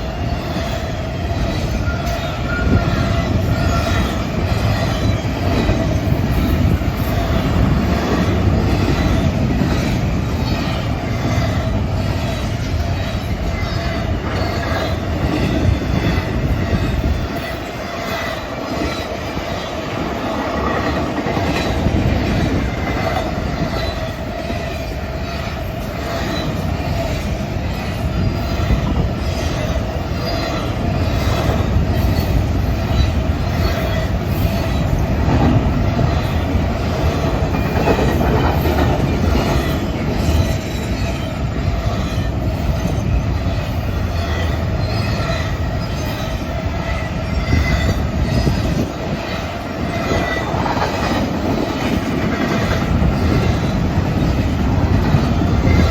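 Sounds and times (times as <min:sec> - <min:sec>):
freight train rumbling past: 0:00.0 - 0:55.9
train wheel squeal: 0:00.0 - 0:55.9.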